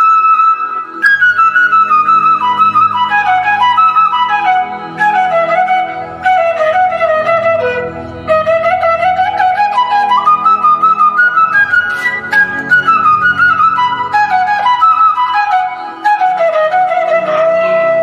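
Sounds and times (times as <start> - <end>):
low steady accompaniment: 0.0 - 18.0
sliding melody line: 0.0 - 18.0.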